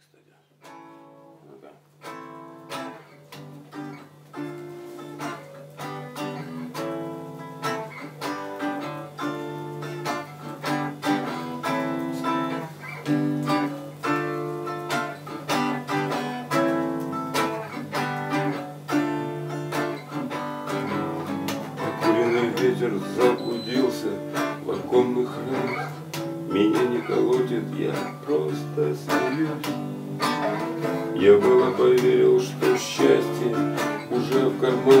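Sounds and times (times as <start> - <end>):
acoustic guitar strumming chords: 0.6 - 35.0.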